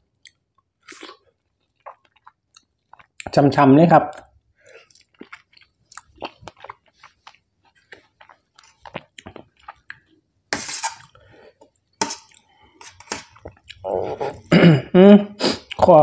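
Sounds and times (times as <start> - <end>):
person chewing food: 0.0 - 3.3, 4.1 - 14.5, 15.5 - 15.9.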